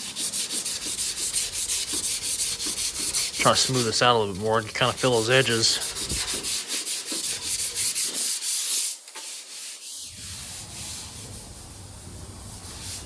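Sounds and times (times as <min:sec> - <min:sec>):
faint rubbing hiss: 0:00.0 - 0:13.0
sandpaper scratching strokes: 0:00.0 - 0:13.0.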